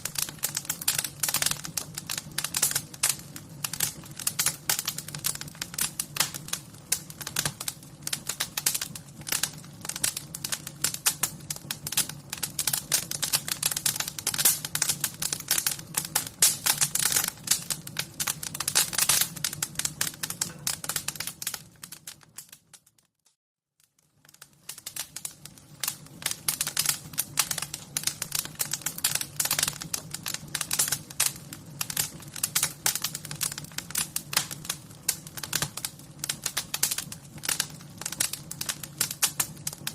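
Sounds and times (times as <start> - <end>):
fire crackling: 0.0 - 23.0, 23.8 - 39.9.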